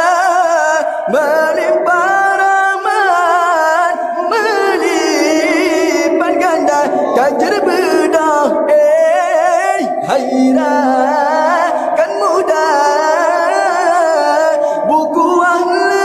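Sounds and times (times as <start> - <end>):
chant-like singing with music: 0.0 - 16.0.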